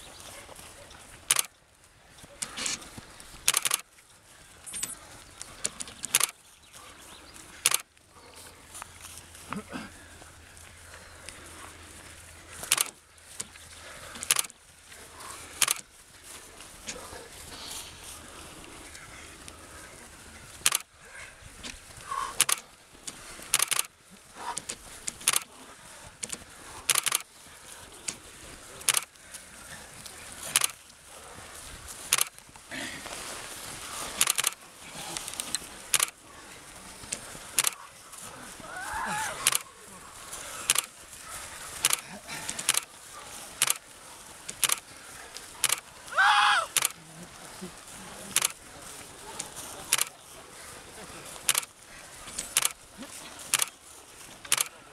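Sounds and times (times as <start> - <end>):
footsteps on grass: 0.0 - 54.9.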